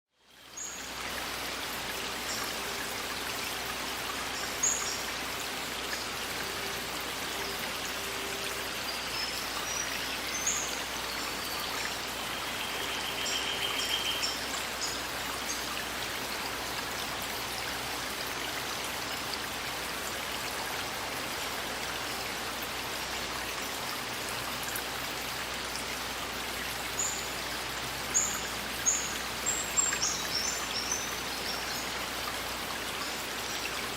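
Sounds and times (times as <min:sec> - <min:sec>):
stream flowing: 0:00.2 - 0:33.9.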